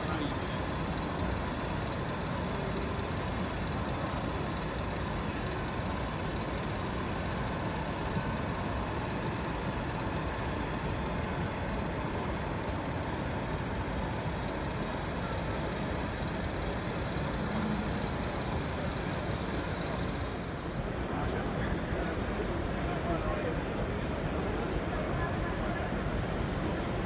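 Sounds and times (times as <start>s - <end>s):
busy exhibition hall rumble: 0.0s - 27.0s.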